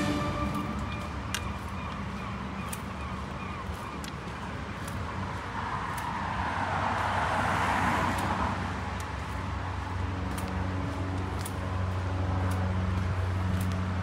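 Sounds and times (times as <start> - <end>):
footsteps on dirt: 0.0 - 14.0
low engine hum: 0.0 - 14.0
vehicle passing: 0.0 - 14.0.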